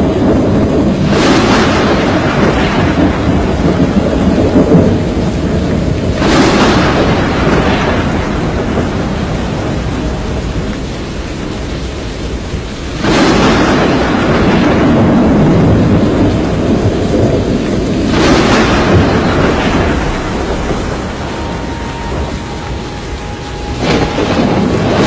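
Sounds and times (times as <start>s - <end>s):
loud thunderclap: 0.0s - 25.0s
rain: 0.0s - 25.0s
wind: 0.0s - 25.0s.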